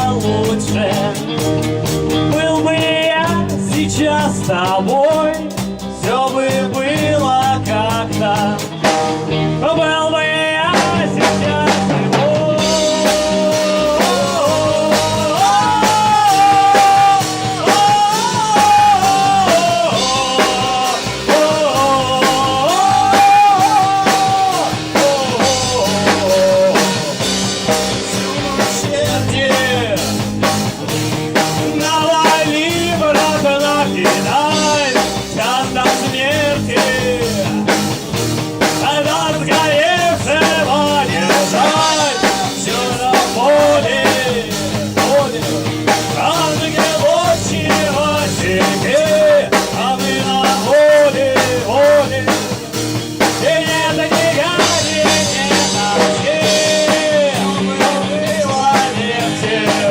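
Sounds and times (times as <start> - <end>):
drums steady beat: 0.0 - 59.9
person singing: 0.0 - 59.9.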